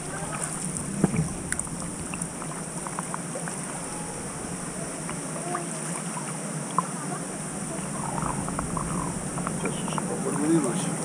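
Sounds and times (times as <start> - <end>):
pool water sloshing and lapping: 0.0 - 11.0
water splashes and drips: 0.0 - 11.0.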